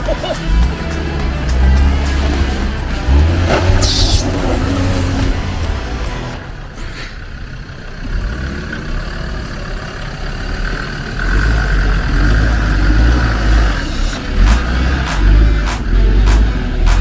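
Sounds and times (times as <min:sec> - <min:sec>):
off-road vehicle engine rumble: 0:00.0 - 0:17.0.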